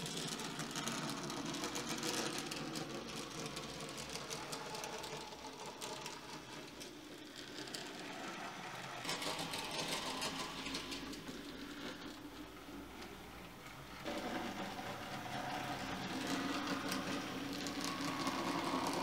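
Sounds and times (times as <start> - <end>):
model train motor whirring: 0.0 - 19.0.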